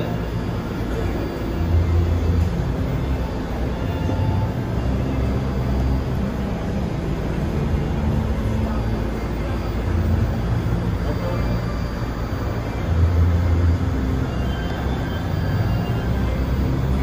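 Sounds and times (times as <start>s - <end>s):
subway train idling hum: 0.0s - 17.0s.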